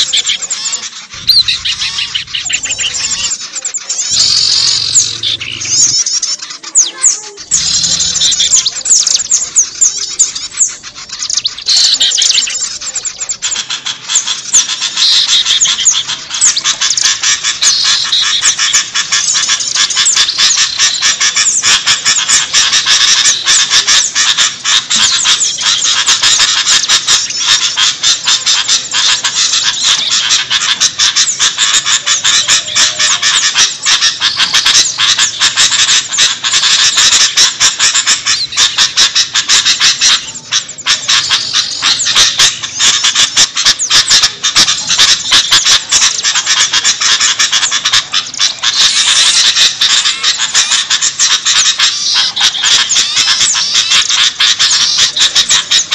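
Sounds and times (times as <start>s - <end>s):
chorus of small birds chattering: 0.0s - 55.9s.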